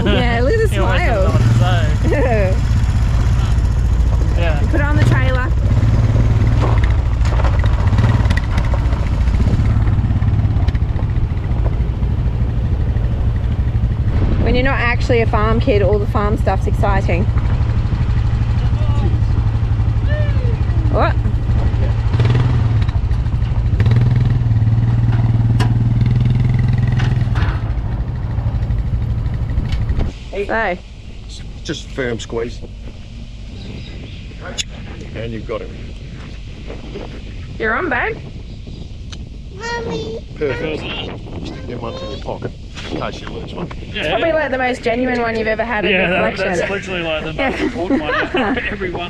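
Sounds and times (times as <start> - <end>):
engine rumbling at low revs: 0.0 - 49.0.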